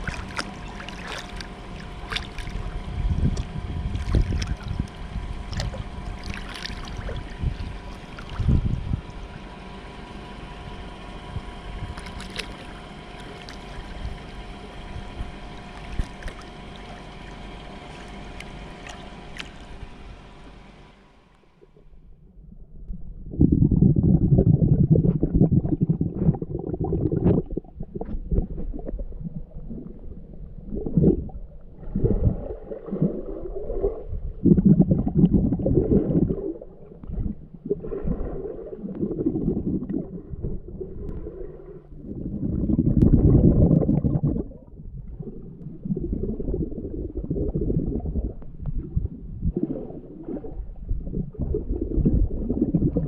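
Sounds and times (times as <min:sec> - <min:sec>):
water swirling and bubbling underwater: 0:00.0 - 0:53.0.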